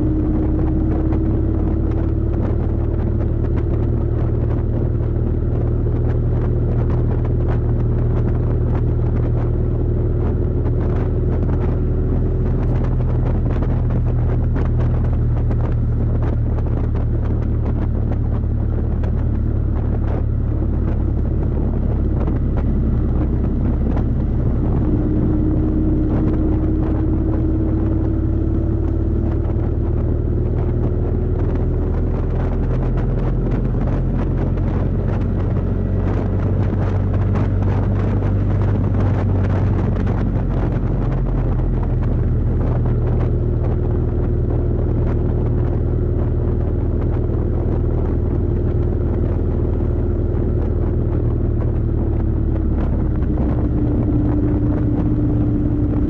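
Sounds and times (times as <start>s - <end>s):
motorcycle engine droning: 0.0s - 56.0s.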